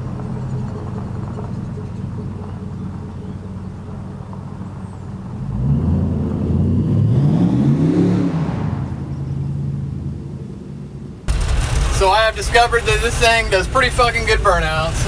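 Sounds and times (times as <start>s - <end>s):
truck engine idling and revving: 0.0s - 15.0s.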